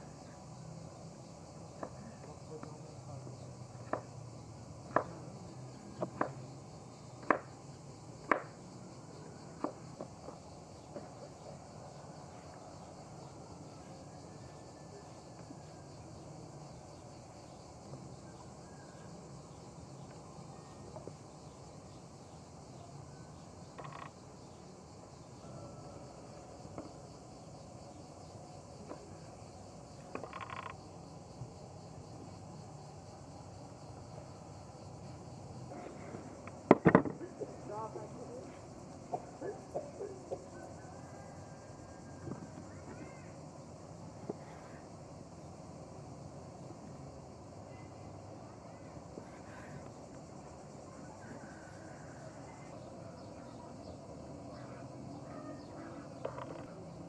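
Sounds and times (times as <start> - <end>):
crickets chirping: 0.0 - 57.0
faint outdoor background: 0.0 - 57.0.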